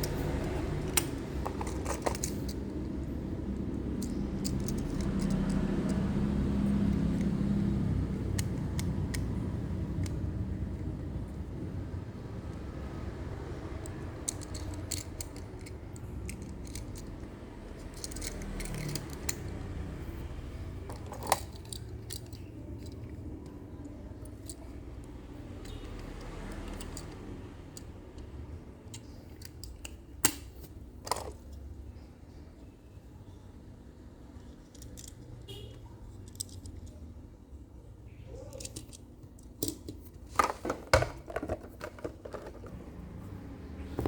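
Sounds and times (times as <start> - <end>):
toy trucks clicking and knocking: 0.0 - 10.9, 12.4 - 31.6, 34.4 - 35.5, 36.1 - 37.1, 38.3 - 42.8.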